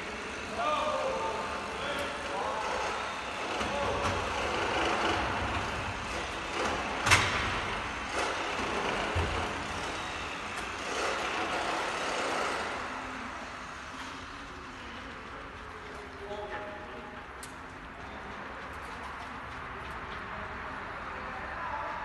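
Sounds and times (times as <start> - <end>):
machine engine rumble echoing: 0.0 - 22.0.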